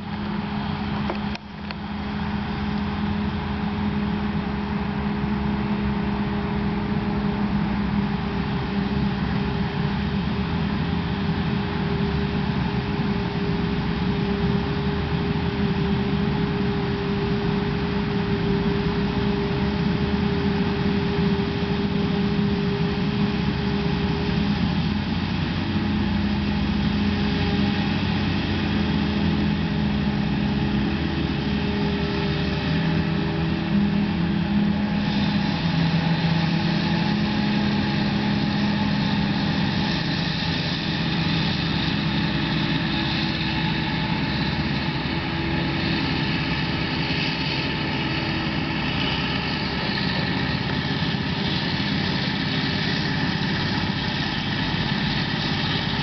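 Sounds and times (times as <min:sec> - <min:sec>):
harvester machinery drone: 0:00.0 - 0:56.0.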